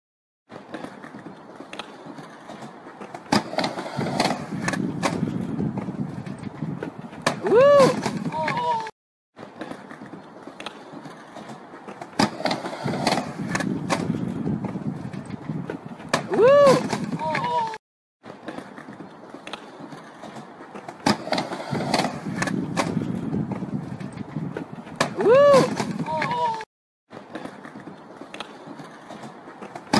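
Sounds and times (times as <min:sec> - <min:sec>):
skateboard clacks: 0:00.5 - 0:29.9
skateboard wheels rolling: 0:00.5 - 0:29.9.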